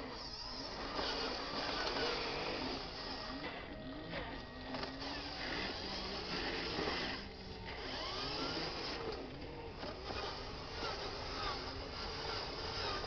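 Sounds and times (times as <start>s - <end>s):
toy truck electric motor whining: 0.0s - 13.0s.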